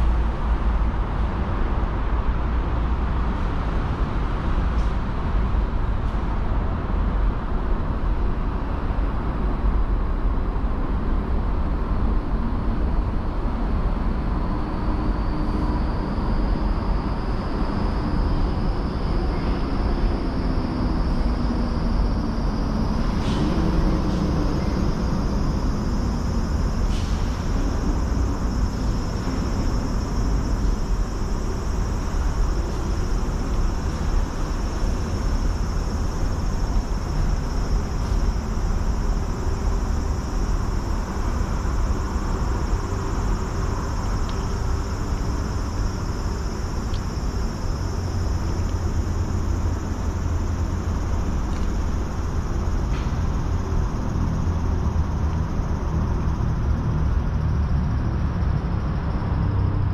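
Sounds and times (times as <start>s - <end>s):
low outdoor rumble: 0.0s - 59.9s.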